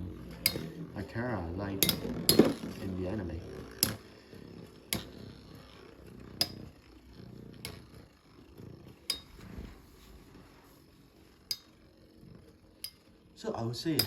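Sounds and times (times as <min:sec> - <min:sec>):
spinning tops whirring: 0:00.0 - 0:14.0.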